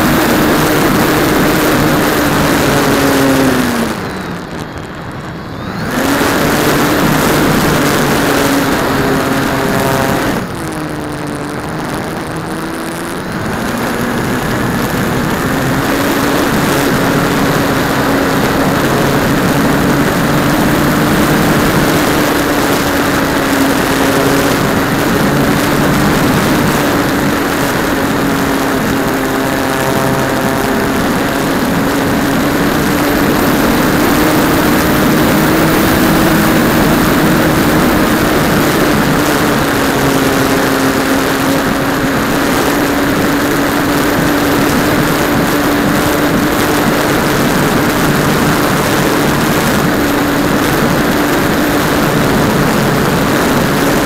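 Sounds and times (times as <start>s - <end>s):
electric motor whine: 0.0s - 54.0s
rushing air: 0.0s - 54.0s.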